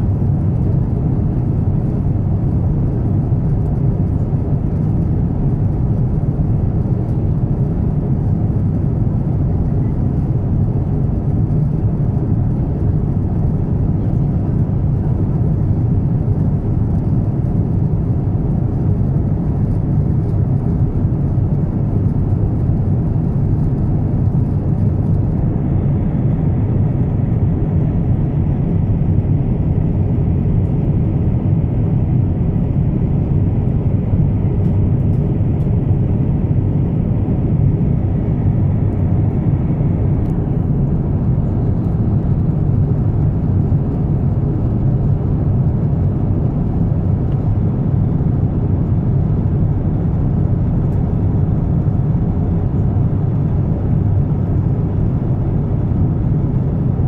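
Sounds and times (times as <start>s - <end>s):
airplane cabin engine roar: 0.0s - 57.0s.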